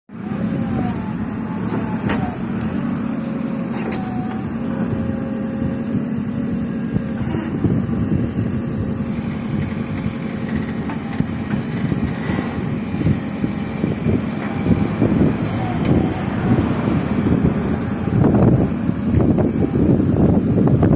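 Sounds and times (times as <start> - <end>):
diesel engine running: 0.1 - 20.9.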